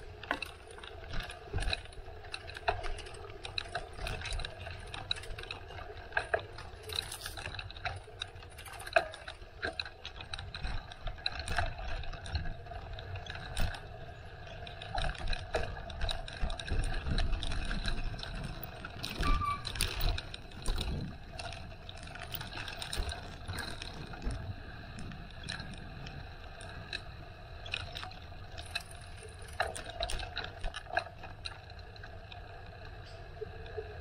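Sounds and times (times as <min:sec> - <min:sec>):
bicycle mechanism clicking and rattling: 0:00.0 - 0:34.0.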